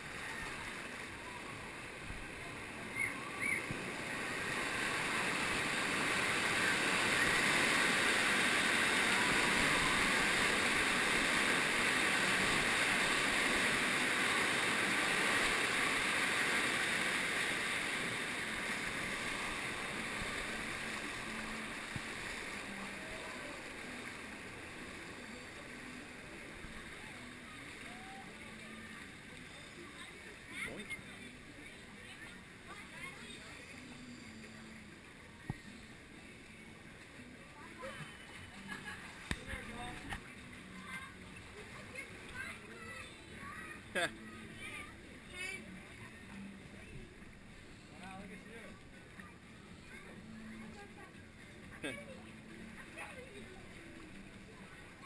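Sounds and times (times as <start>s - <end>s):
rushing churning water: 0.0s - 55.0s.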